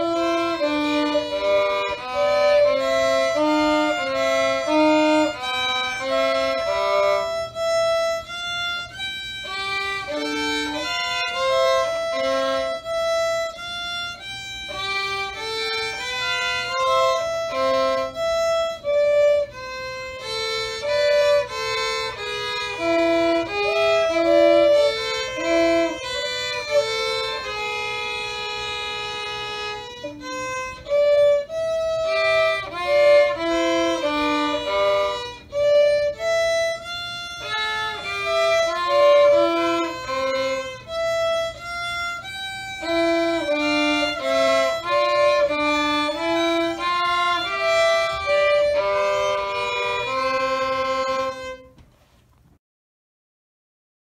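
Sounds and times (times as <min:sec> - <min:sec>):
violin duet: 0:00.0 - 0:51.9.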